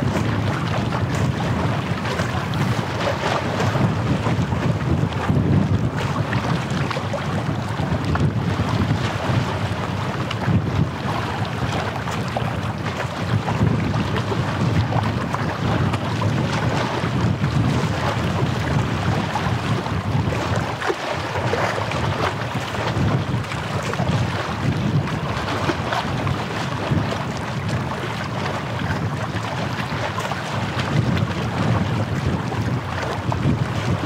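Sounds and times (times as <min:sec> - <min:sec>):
waves washing at shore: 0:00.0 - 0:34.0
wind buffeting microphone: 0:00.0 - 0:34.0.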